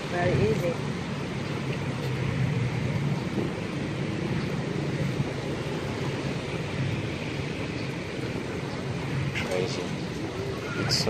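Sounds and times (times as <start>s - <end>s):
outdoor background rumble: 0.0s - 11.0s.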